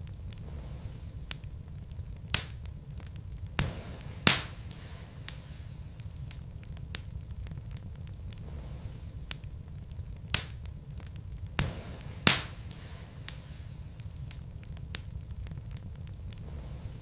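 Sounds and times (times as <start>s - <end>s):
wood logs crackling and popping: 0.0s - 17.0s.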